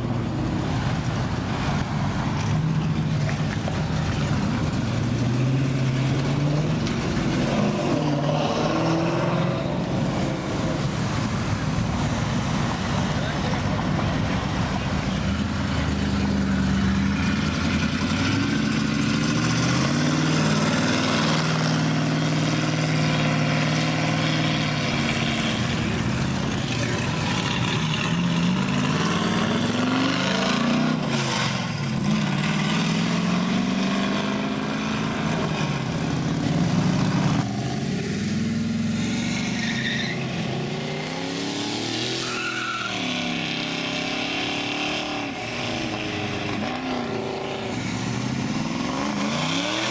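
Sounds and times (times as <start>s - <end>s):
car engines revving past: 0.0s - 49.9s.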